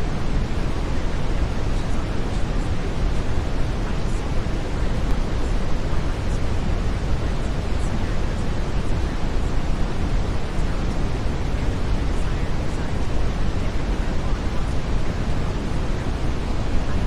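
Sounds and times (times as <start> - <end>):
brown noise: 0.0 - 17.0.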